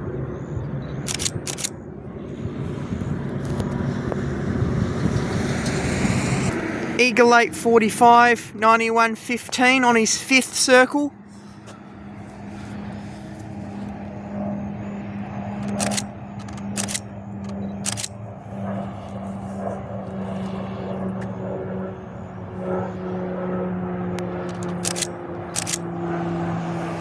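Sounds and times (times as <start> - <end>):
propeller aircraft drone: 0.0 - 27.0
road traffic noise: 0.0 - 27.0.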